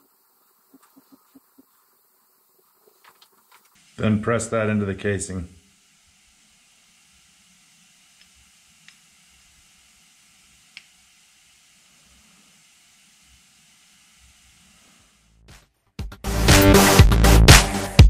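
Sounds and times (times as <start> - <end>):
faint steady hiss: 0.0 - 15.5.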